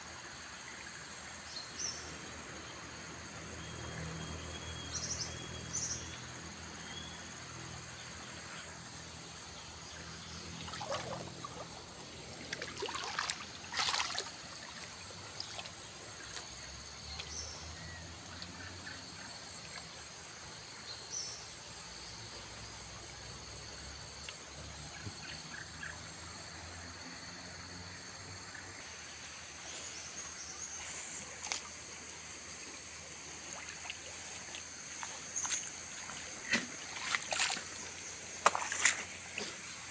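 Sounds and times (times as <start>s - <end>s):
insects chirring: 0.0s - 39.9s
river flowing: 4.9s - 39.9s.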